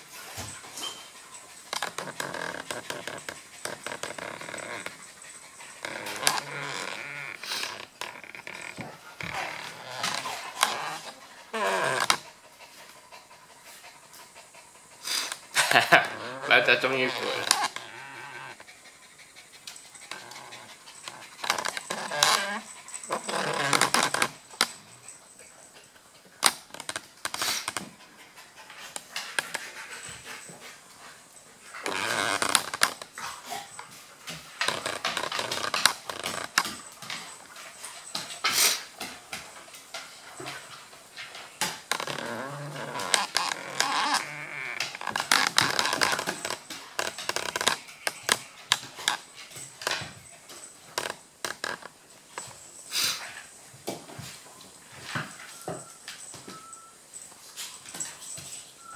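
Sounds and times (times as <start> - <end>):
dogs scuffling on wooden floor: 0.0 - 58.9.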